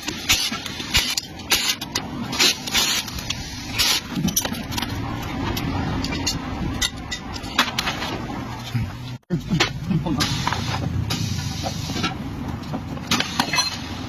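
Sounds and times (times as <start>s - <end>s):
steady low hum: 2.0s - 14.0s.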